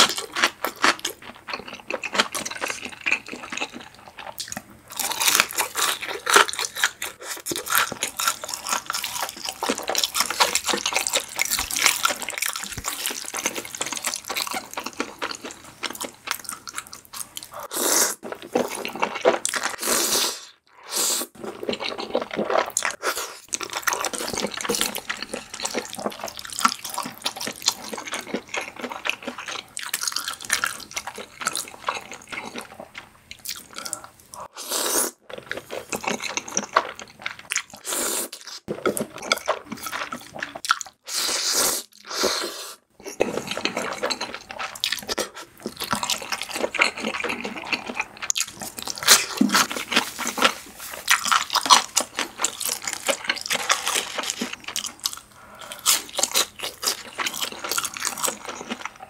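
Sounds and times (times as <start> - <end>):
wet chewing and smacking: 0.0 - 17.6, 21.4 - 34.5, 35.3 - 41.1, 43.0 - 59.0.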